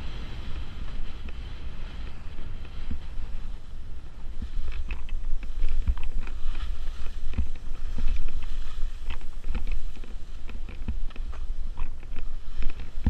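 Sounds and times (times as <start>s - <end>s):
ski turn thumps: 0.0s - 13.0s
skis scraping through slush: 0.0s - 13.0s
wind buffeting microphone: 0.0s - 13.0s.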